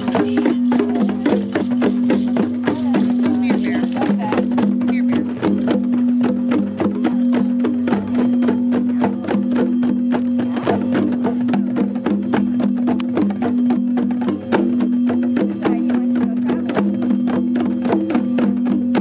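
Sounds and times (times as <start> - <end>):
djembe played by hand: 0.0 - 19.0.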